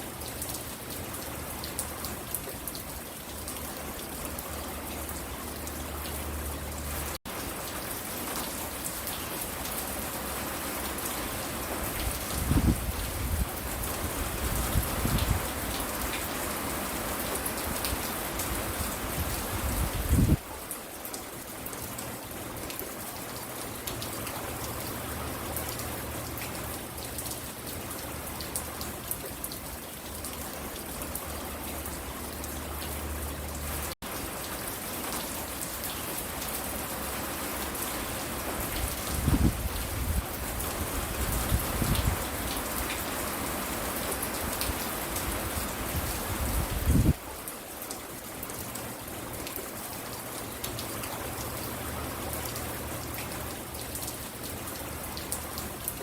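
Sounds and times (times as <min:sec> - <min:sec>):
rain pattering on porch: 0:00.0 - 0:56.0.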